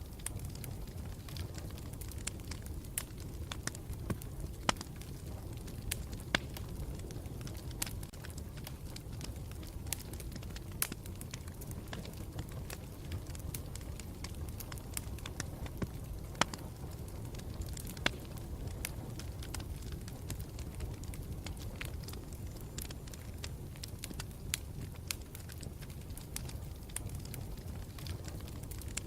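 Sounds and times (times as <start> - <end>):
campfire crackling and popping: 0.0 - 29.0
low fire rumble: 0.0 - 29.0.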